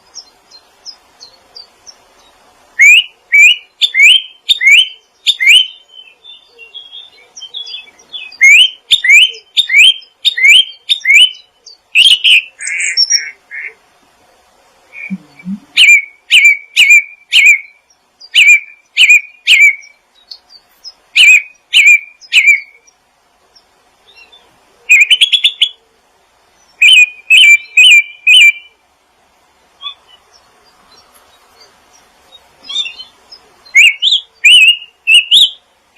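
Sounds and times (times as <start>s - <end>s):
songbird chirping: 0.0s - 35.9s.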